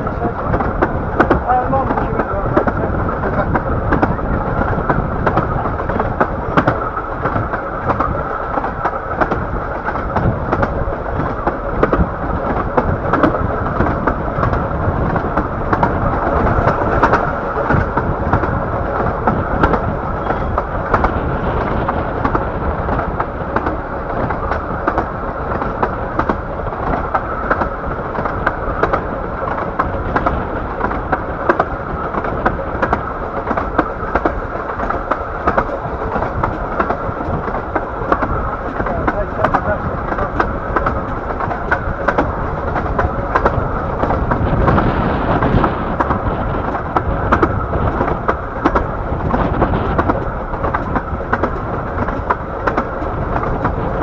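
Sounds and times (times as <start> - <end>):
train wheels rumbling on track: 0.0 - 54.0
wheels clicking and knocking: 0.0 - 54.0.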